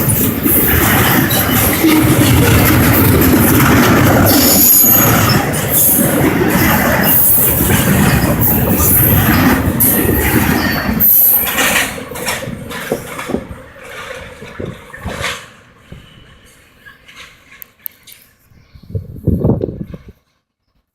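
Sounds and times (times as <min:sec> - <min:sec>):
freight train cars rolling: 0:00.0 - 0:18.6.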